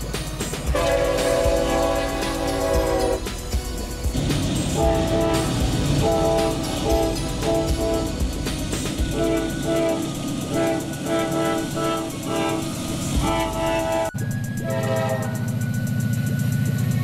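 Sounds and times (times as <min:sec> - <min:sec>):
diesel locomotive engine droning: 0:00.0 - 0:17.0
train horn blasts: 0:00.7 - 0:03.5, 0:04.2 - 0:15.6.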